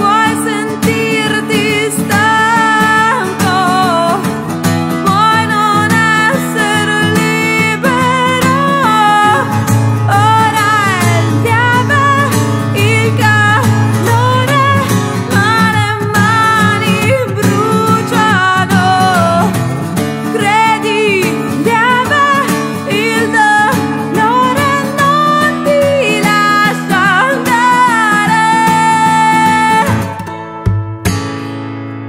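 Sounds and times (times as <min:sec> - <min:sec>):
woman singing: 0:00.0 - 0:30.6
fingerpicked acoustic guitar: 0:00.0 - 0:32.0.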